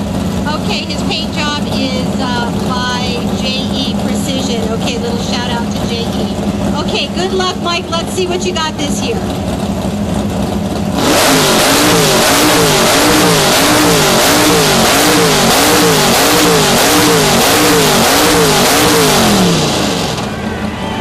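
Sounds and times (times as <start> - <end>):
loud car engine revving: 0.0 - 21.0.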